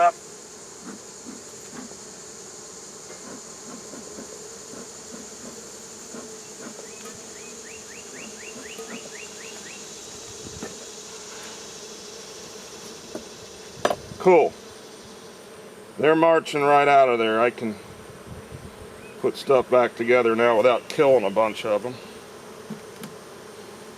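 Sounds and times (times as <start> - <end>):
bees buzzing: 0.0 - 23.9.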